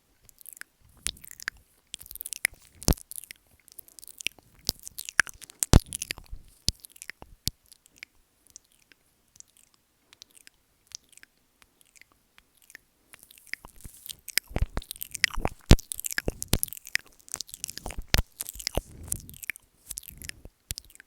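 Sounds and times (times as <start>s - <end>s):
wet tongue and lip clicks: 0.2s - 21.0s.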